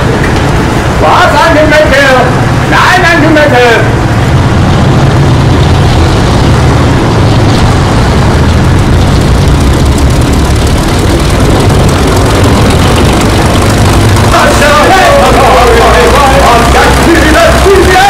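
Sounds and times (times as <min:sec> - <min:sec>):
tank diesel engine droning: 0:00.0 - 0:18.0.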